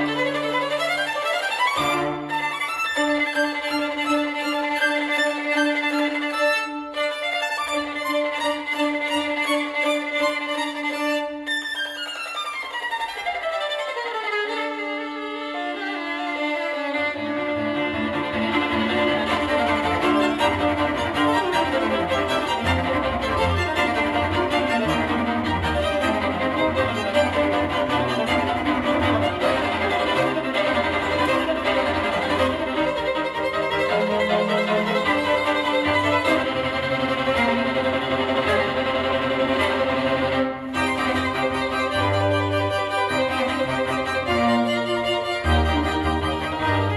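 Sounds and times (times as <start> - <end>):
violin music through speakers: 0.0 - 46.9.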